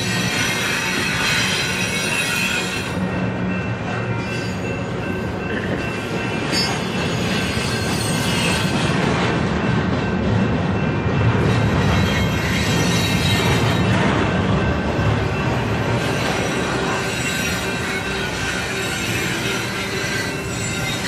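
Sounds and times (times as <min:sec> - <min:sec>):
train wheel squeal: 0:00.0 - 0:09.2, 0:11.4 - 0:21.0
freight train rumbling past: 0:00.0 - 0:21.0.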